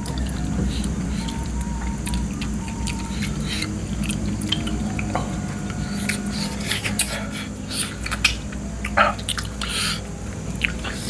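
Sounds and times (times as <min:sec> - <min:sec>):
person chewing and smacking: 0:00.0 - 0:11.0
steady low hum: 0:00.0 - 0:11.0.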